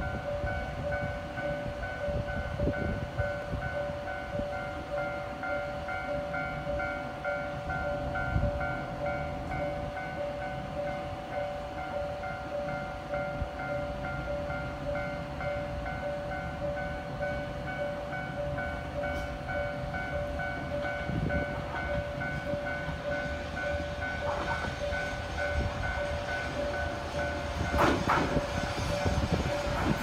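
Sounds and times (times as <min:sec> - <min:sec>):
level-crossing alarm dinging: 0:00.0 - 0:30.0.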